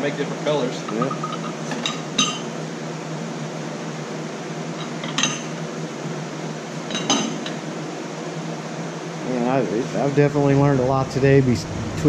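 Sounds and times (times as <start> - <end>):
steady fan hum: 0.0 - 12.0.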